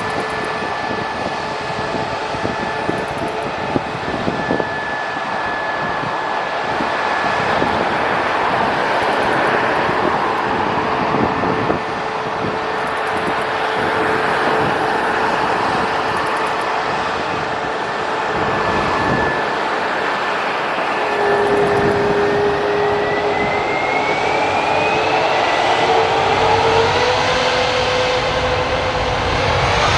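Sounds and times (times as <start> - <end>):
jet engines running: 0.0 - 29.9.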